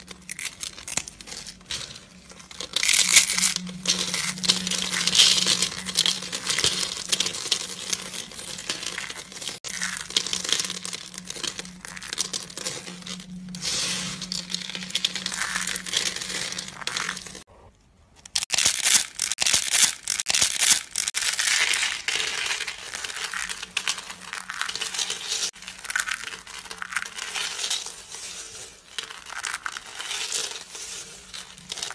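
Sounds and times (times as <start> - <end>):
soap flakes crunching: 0.0 - 17.5, 21.1 - 31.9.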